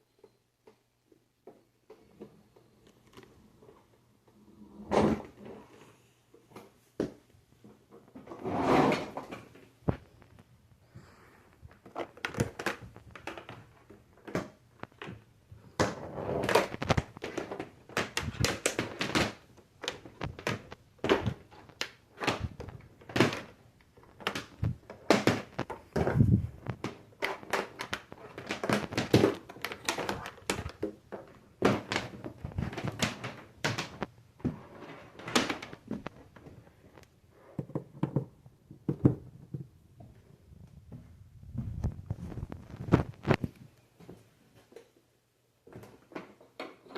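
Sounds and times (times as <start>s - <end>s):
objects being handled: 0.1s - 45.1s.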